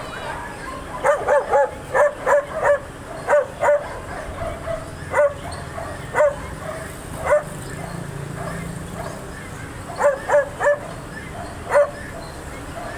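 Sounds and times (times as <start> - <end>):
dog barking: 0.2 - 12.9.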